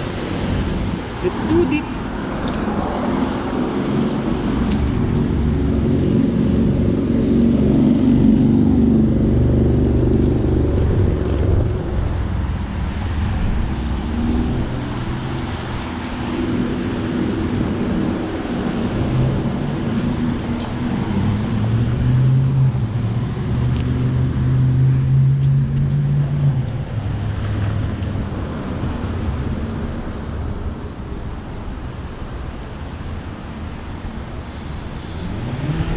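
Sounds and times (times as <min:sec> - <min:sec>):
vehicle engine and road noise: 0:00.0 - 0:35.9.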